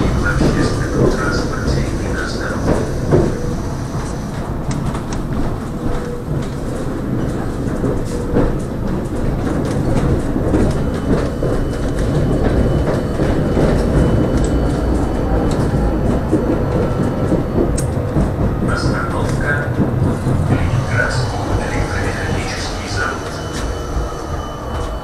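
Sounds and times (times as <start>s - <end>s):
tram wheels rumbling on rail: 0.0s - 25.0s.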